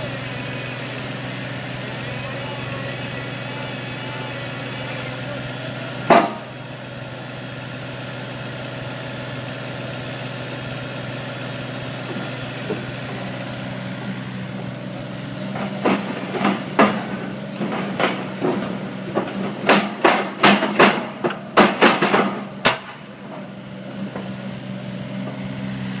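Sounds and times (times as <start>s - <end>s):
piling rig engine and hydraulic hum: 0.0s - 26.0s.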